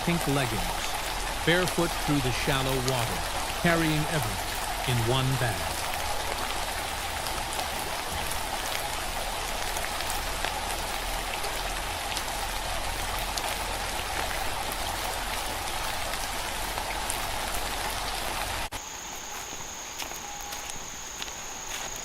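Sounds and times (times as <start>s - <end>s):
raindrop ticks: 0.0s - 18.8s, 19.4s - 22.0s
steady rain: 0.0s - 22.0s.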